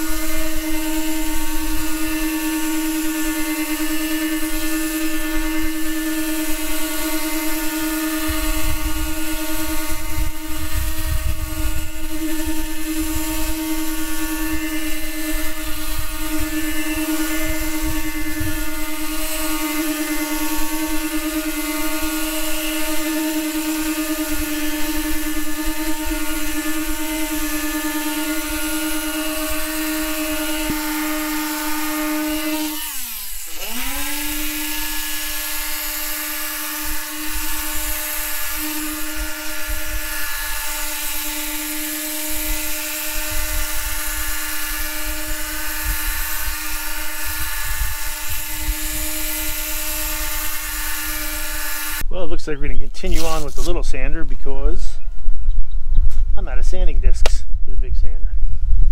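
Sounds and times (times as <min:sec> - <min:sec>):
orbital sander whining: 0:00.0 - 0:55.3.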